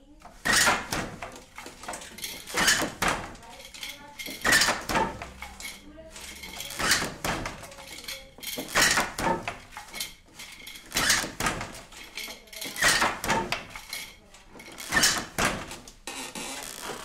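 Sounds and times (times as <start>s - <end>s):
light loom clicks and clacks: 0.1s - 16.1s
wooden hand loom clattering: 0.2s - 17.0s.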